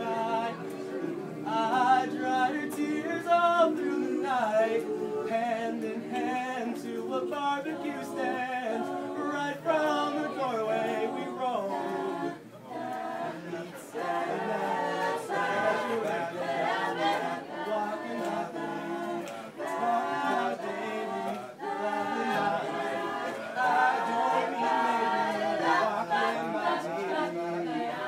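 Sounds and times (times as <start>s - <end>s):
crowd singing unaccompanied: 0.0s - 28.0s.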